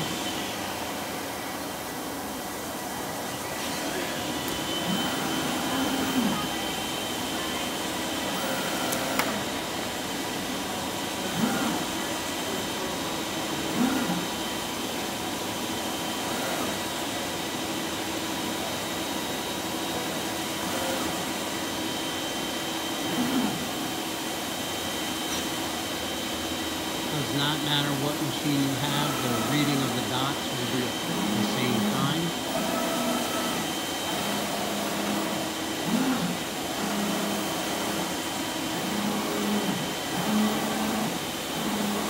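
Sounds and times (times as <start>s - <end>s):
cutting machine hum and whine: 0.0s - 42.0s.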